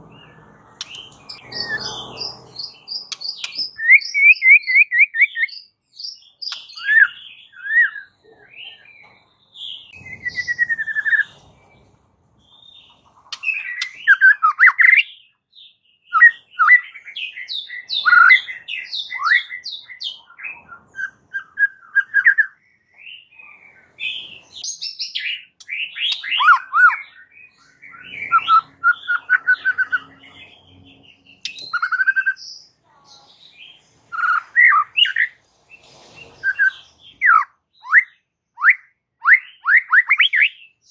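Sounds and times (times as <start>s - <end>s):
bird singing whistled phrases: 0.8s - 8.8s, 9.8s - 11.8s, 12.5s - 15.2s, 16.0s - 23.3s, 24.1s - 30.2s, 31.4s - 32.7s, 34.1s - 35.4s, 36.4s - 40.9s.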